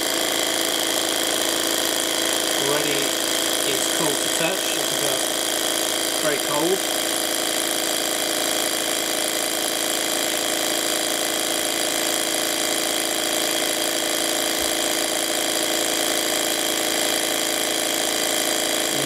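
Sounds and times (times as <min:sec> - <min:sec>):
cryocooler mechanical hum: 0:00.0 - 0:19.0.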